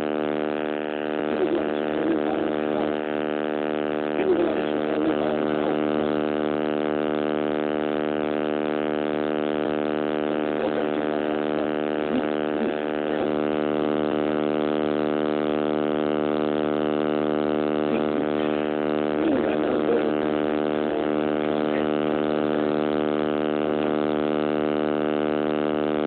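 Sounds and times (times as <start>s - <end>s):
electrical buzz: 0.0s - 26.0s.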